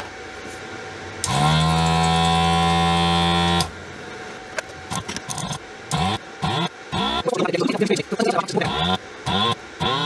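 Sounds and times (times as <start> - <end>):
vacuum pump humming: 0.0 - 10.0.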